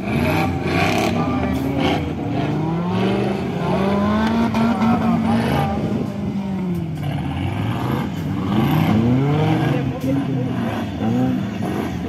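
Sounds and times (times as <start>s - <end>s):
engine revving hard: 0.0s - 6.1s, 7.0s - 12.0s.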